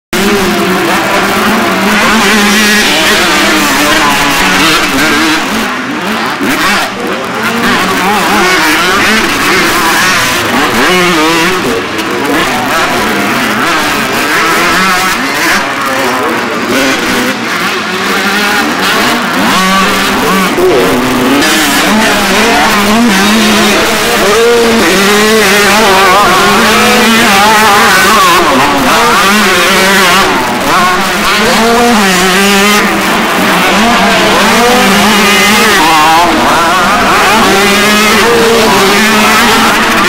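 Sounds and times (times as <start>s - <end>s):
dirt bike engines revving: 0.1s - 40.0s.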